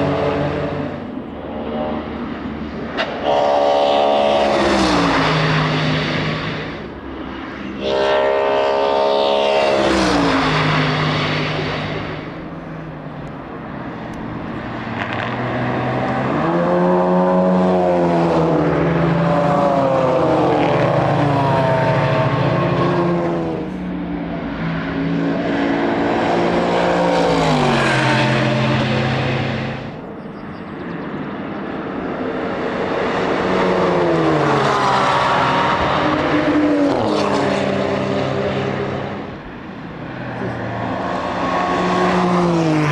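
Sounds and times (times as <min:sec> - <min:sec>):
race cars passing: 0:00.0 - 0:42.9.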